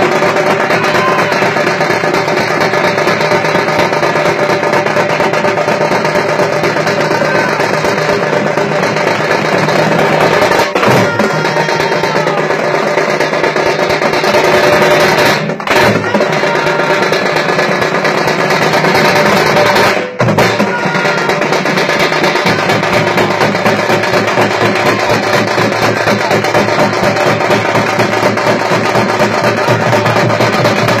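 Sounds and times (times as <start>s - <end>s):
frame drums beaten rapidly: 0.0s - 31.0s.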